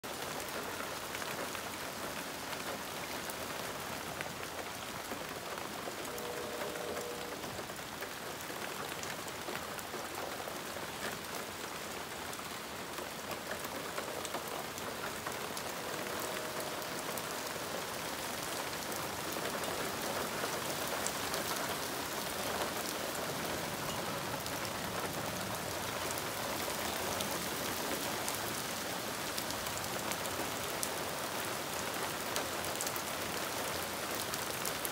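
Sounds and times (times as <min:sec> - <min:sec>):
hard rain on foliage: 0:00.0 - 0:34.9.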